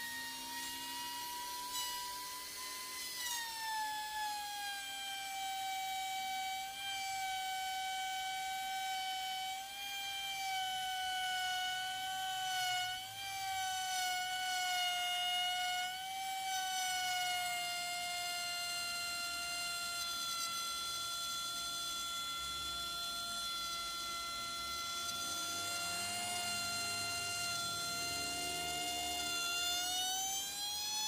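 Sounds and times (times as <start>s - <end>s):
power tool high whine: 0.0s - 31.0s.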